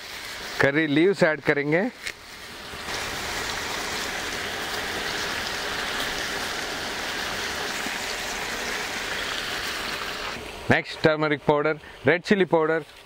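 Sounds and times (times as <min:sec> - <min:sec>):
leaves frying in hot oil: 0:00.0 - 0:13.0.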